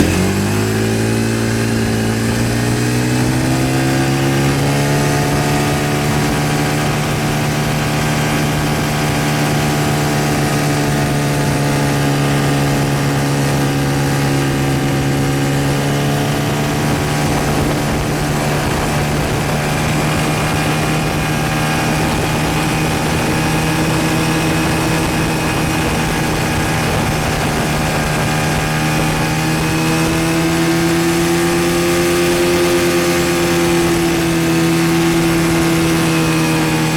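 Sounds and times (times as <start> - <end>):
quad bike engine running: 0.0 - 36.9.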